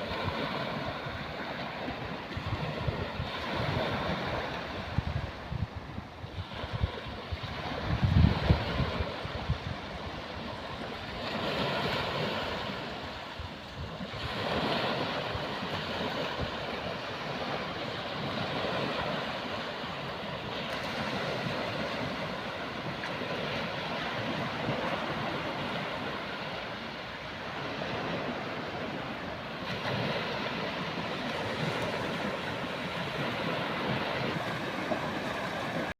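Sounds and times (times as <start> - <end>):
sea waves washing onto shore: 0.0 - 35.9
wind on microphone: 0.0 - 35.9.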